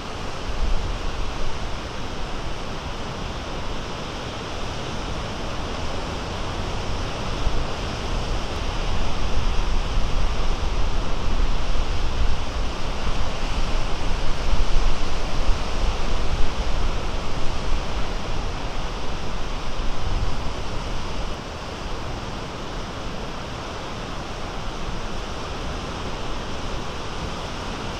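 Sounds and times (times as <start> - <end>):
wind rumbling on microphone: 0.0 - 27.9.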